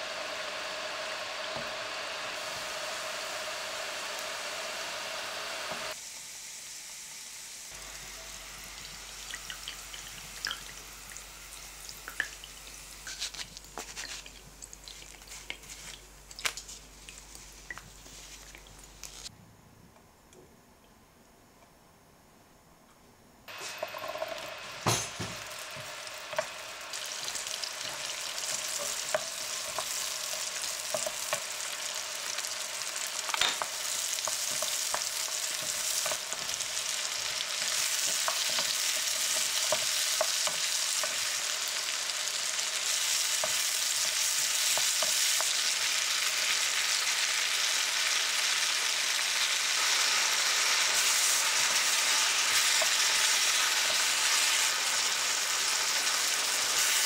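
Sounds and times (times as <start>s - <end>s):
vegetables sizzling in oil: 0.0s - 19.3s, 23.5s - 57.0s.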